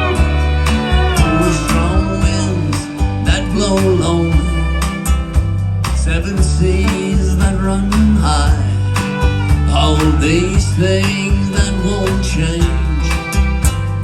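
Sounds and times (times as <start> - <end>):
country band playing ballad: 0.0 - 14.0
fiddle melody: 0.0 - 14.0
pedal steel guitar: 0.0 - 14.0.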